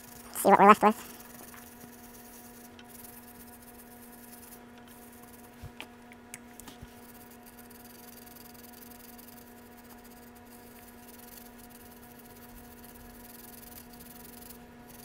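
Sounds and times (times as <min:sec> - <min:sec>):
small brush scrubbing: 0:00.0 - 0:05.8, 0:06.7 - 0:15.0
low electrical hum: 0:00.0 - 0:15.0.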